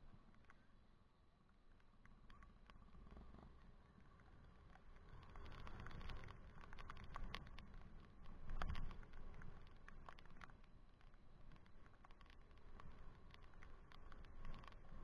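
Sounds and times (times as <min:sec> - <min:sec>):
wind and road rumble: 0:00.0 - 0:15.0.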